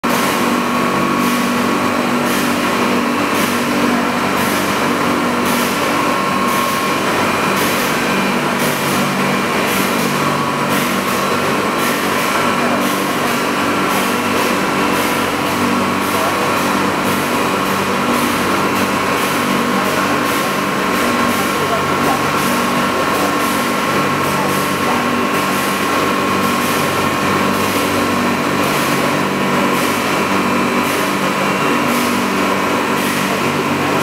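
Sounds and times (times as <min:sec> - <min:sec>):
factory machinery hum: 0:00.0 - 0:34.0.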